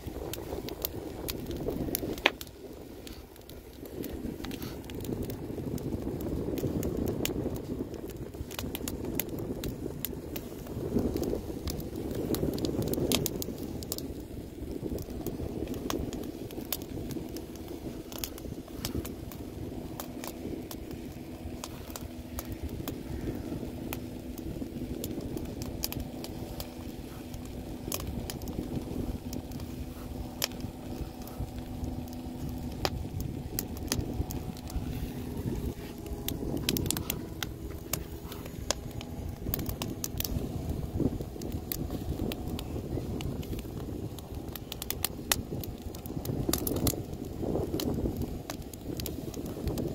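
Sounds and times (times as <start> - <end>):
low steady rumble and hum: 0.0 - 49.9
wood fire crackling and popping: 0.0 - 49.9.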